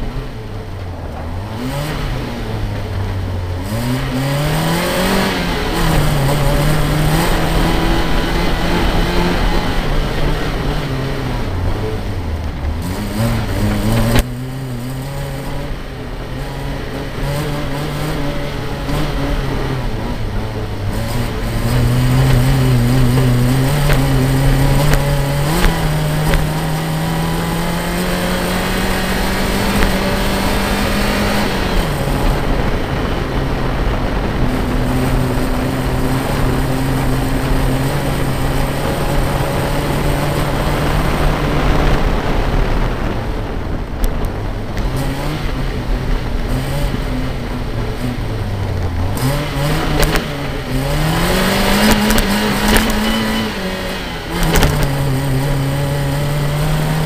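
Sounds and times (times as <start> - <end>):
rally car engine pulling hard: 0.0 - 57.0.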